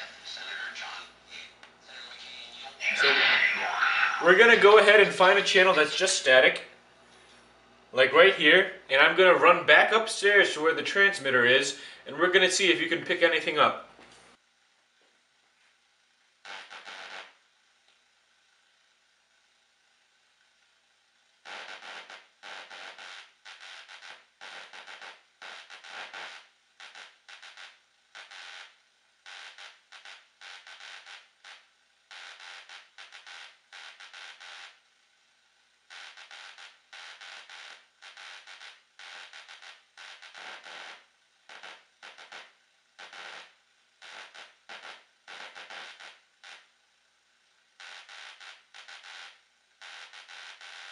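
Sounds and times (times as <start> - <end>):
radio static bursts: 0.0 - 6.8, 8.0 - 13.8, 16.5 - 17.4, 21.4 - 34.8, 35.9 - 46.7, 47.8 - 50.9
faint radio hiss: 0.0 - 50.9.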